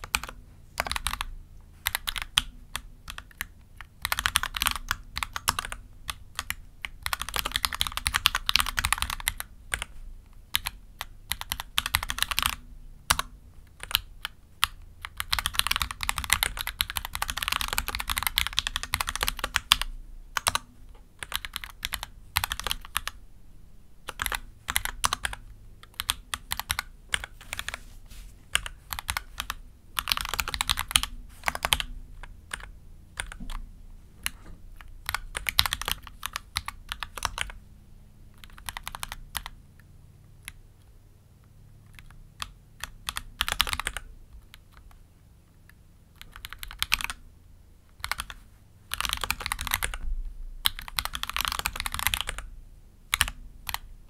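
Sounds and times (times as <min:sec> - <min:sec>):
mechanical keyboard typing: 0:00.0 - 0:23.2, 0:24.0 - 0:27.8, 0:28.5 - 0:33.6, 0:34.2 - 0:37.6, 0:38.4 - 0:39.6, 0:41.8 - 0:45.0, 0:46.1 - 0:47.2, 0:47.9 - 0:52.5, 0:53.1 - 0:53.9.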